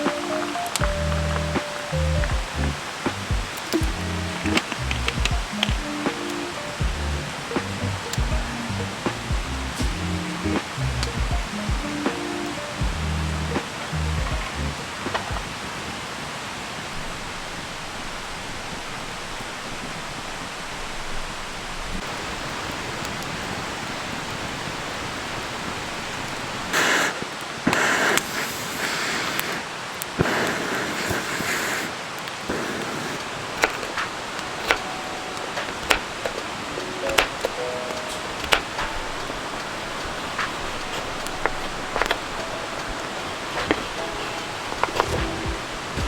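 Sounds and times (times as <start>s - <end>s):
fire crackling and popping: 0.0s - 20.1s, 20.7s - 46.0s
campfire hissing: 0.0s - 46.0s
rushing bursts of noise: 0.0s - 46.0s.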